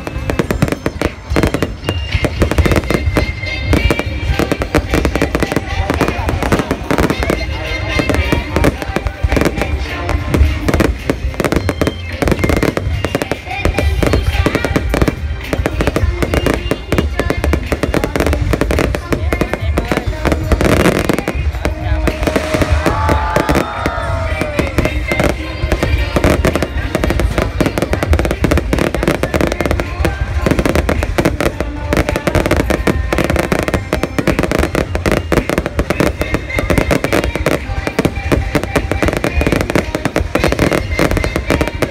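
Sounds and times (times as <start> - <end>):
background music: 0.0 - 41.9
fireworks bangs and crackles: 0.0 - 41.9
voices: 0.0 - 41.9.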